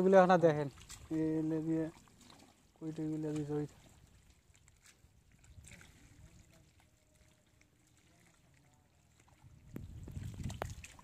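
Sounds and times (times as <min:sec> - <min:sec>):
mud squelching underfoot: 0:00.0 - 0:11.0.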